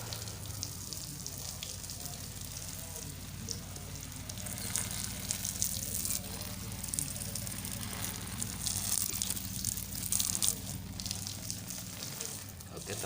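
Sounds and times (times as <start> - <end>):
water splashing and pouring: 0.0 - 13.0.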